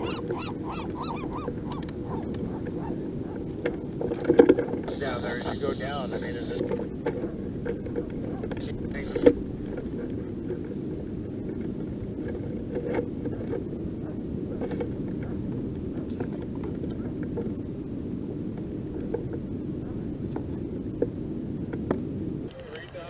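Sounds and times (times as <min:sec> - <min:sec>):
wind buffeting microphone: 0:00.0 - 0:22.5.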